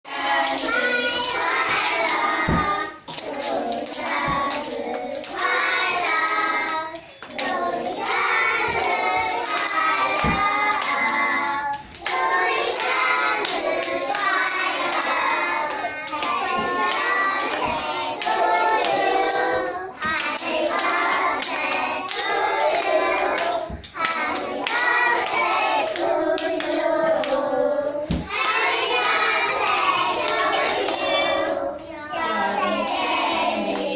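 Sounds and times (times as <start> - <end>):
children singing a birthday song: 0.0 - 33.9
hands clapping: 0.1 - 19.1, 20.0 - 27.5, 28.1 - 33.9.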